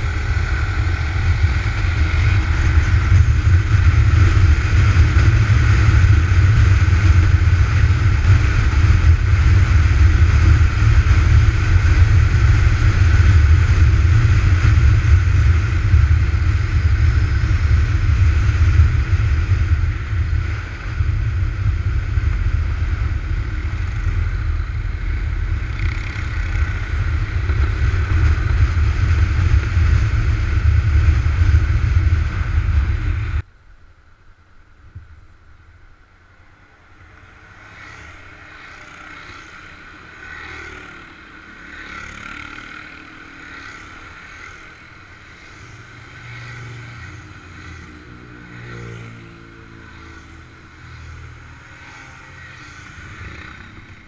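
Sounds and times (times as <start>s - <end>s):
motorcycles riding past: 0.0s - 31.9s, 36.6s - 54.0s.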